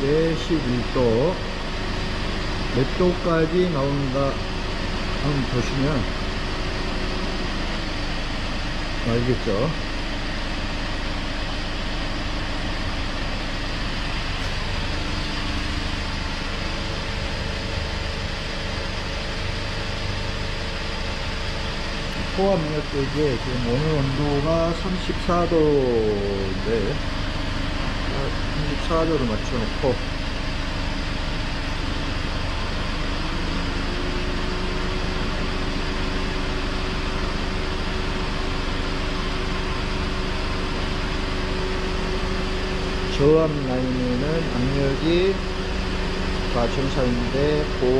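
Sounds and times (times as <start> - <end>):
air conditioning air rush: 0.0 - 47.9
car engine idling: 0.0 - 47.9.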